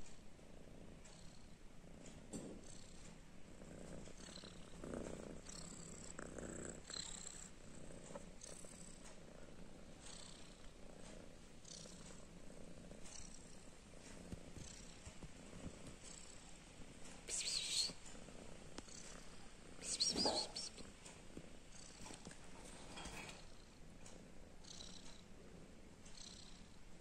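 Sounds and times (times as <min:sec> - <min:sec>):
kitten purring: 0:00.0 - 0:27.0.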